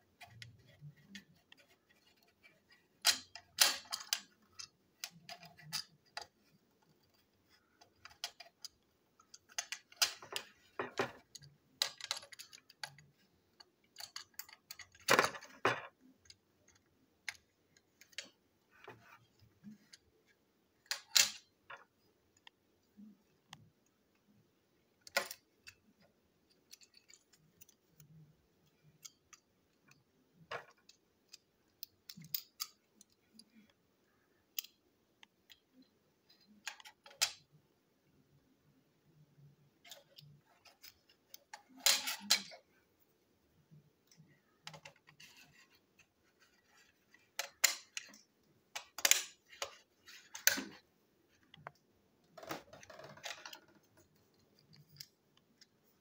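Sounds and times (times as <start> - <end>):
plastic toy parts clicking: 0.2 - 19.1, 20.8 - 22.5, 25.0 - 33.8, 34.5 - 37.5, 39.8 - 42.6, 44.0 - 50.8, 51.4 - 55.7.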